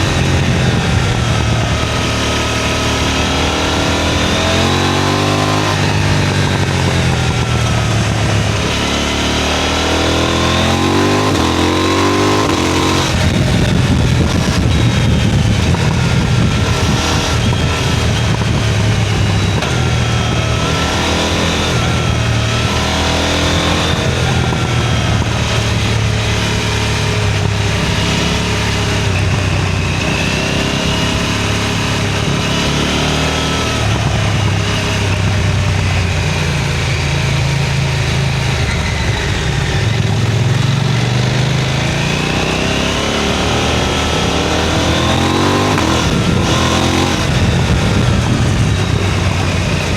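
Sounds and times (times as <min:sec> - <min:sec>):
motorcycle engine and exhaust: 0:00.0 - 0:49.9
wind noise: 0:00.0 - 0:49.9.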